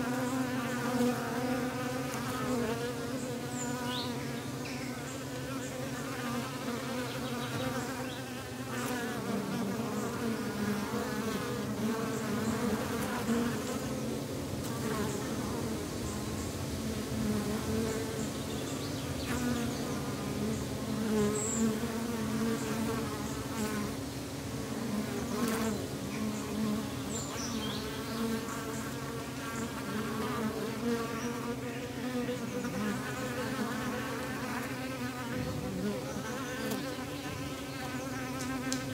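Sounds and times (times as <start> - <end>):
honeybee colony humming: 0.0 - 38.9.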